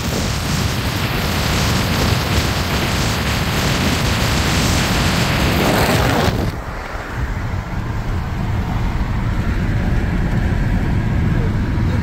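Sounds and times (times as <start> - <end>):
car road and engine rumble: 0.0 - 12.0
wind rushing on microphone: 0.0 - 12.0.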